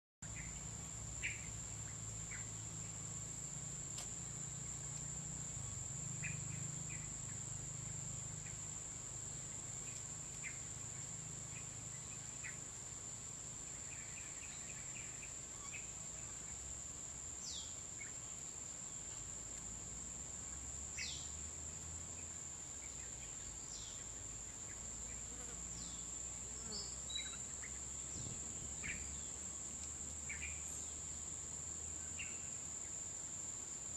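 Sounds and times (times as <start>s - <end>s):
insects droning: 0.2s - 33.9s.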